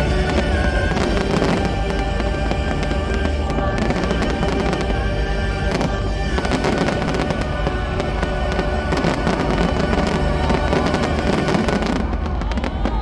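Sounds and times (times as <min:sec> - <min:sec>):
fireworks banging and crackling: 0:00.0 - 0:13.0
loud music: 0:00.0 - 0:13.0.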